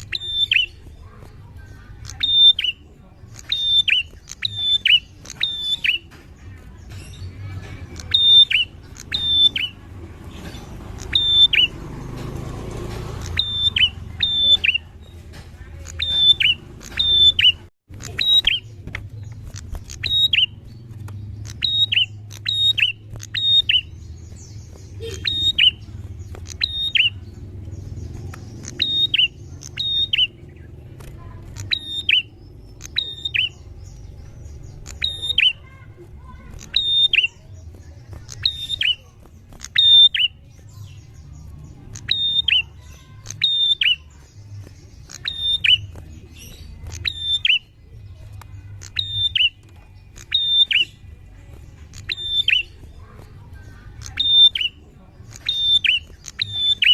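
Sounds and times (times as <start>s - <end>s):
bird chirping: 0.0s - 56.9s.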